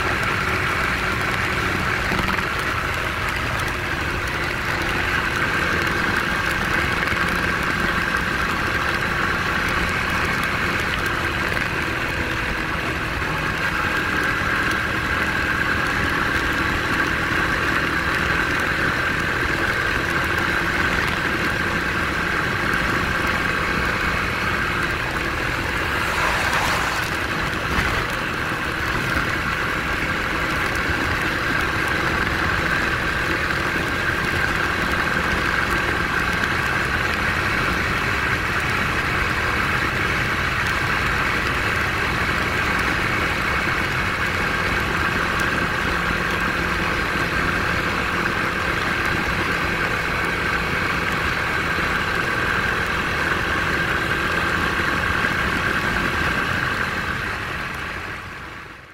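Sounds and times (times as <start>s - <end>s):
motorcycle engine hum: 0.0s - 58.9s
tyres on wet road: 0.0s - 58.9s
wind: 0.0s - 58.9s.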